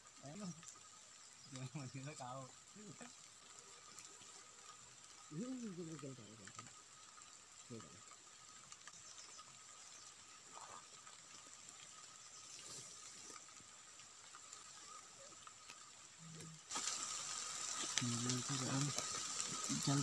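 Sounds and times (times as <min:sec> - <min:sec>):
rain hissing: 0:00.0 - 0:20.0.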